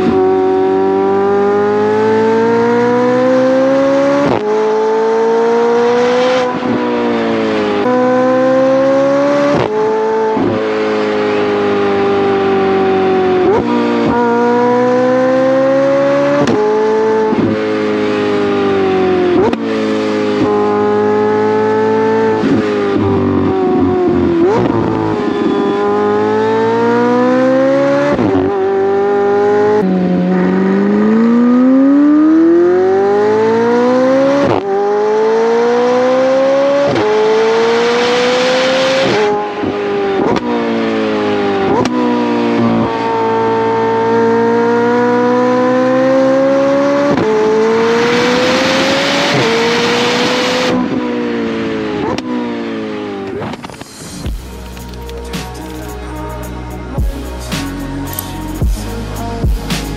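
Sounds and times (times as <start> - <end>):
sports car accelerating through gears: 0.0 - 59.9.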